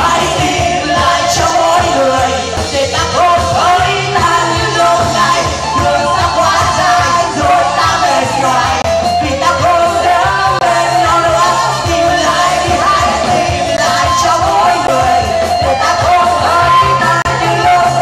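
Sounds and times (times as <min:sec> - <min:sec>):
bass line: 0:00.0 - 0:18.0
drums: 0:00.0 - 0:18.0
electric guitar: 0:00.0 - 0:18.0
voices singing together: 0:00.0 - 0:18.0.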